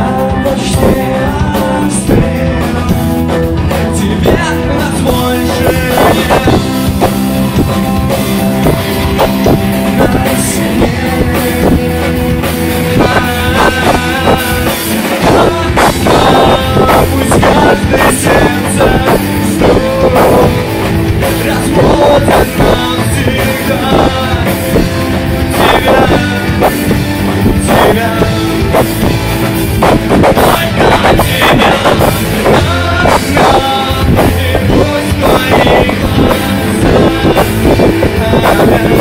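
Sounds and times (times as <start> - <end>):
drum kit: 0.0 - 39.0
loud rock song: 0.0 - 39.0
person singing: 0.0 - 39.0.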